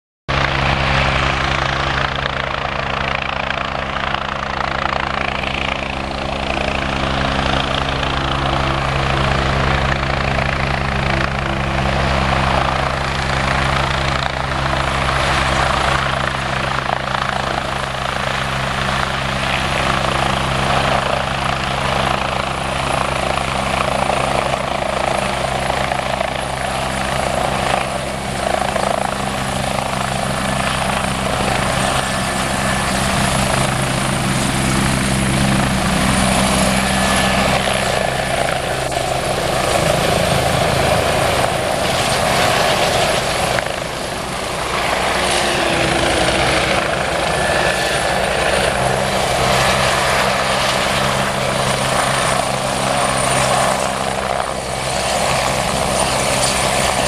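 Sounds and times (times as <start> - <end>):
helicopter rotor beat: 0.3 - 57.0
high turbine whine: 0.3 - 57.0.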